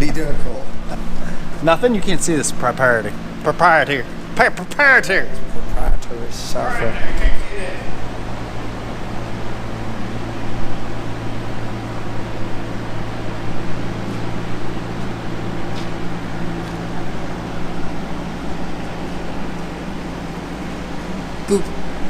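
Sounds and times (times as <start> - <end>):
low held drone: 0.0 - 22.0
mechanical hum and rushing air: 0.0 - 22.0.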